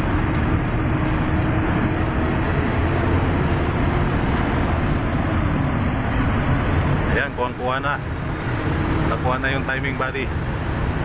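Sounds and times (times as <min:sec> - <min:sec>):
road noise: 0:00.0 - 0:11.0
truck diesel engine: 0:00.0 - 0:11.0.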